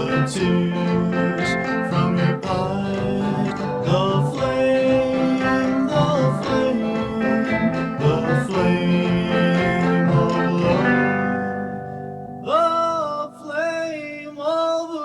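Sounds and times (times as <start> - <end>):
guitar-led vocal-group music: 0.0 - 14.9.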